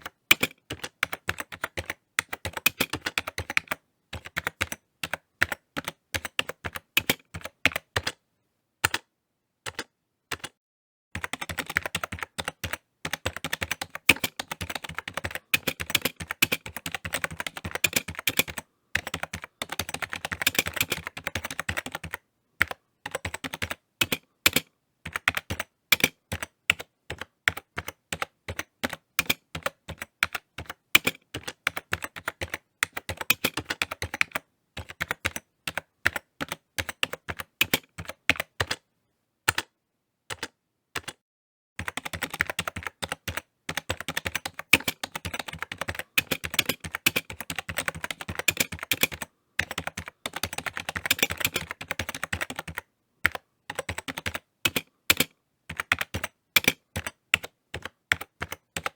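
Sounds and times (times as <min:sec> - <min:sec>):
computer keyboard typing: 0:00.0 - 0:08.2, 0:08.8 - 0:09.1, 0:09.7 - 0:10.6, 0:11.2 - 0:38.8, 0:39.5 - 0:39.7, 0:40.3 - 0:41.2, 0:41.8 - 0:58.9.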